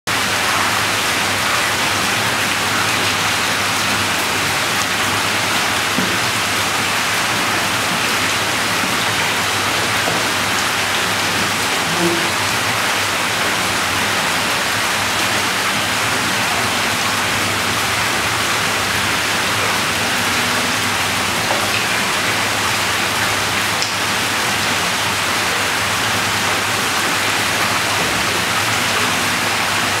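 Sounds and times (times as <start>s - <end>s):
running water rushing: 0.1s - 30.0s.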